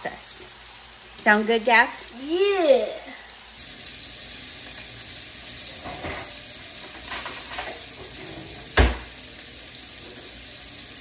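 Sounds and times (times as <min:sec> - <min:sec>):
patties sizzling in a pan: 0:00.0 - 0:11.0.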